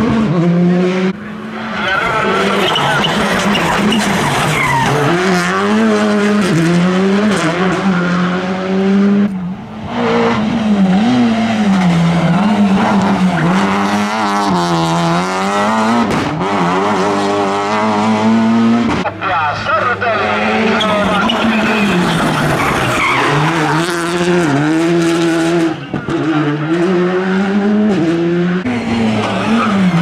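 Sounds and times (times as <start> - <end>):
rally car engine at high revs: 0.0 - 30.0.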